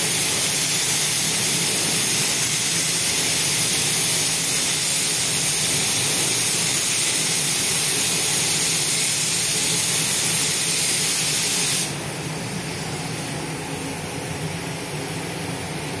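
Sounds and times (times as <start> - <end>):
spray gun hissing: 0.0 - 13.5.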